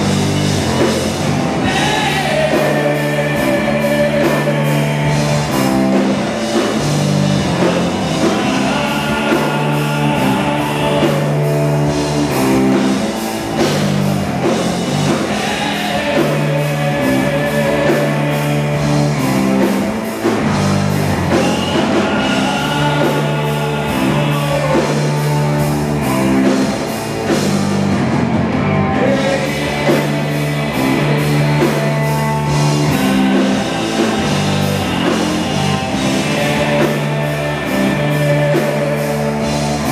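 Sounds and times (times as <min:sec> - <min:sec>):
electric bass low notes: 0:00.0 - 0:39.9
heavy rock band playing: 0:00.0 - 0:39.9.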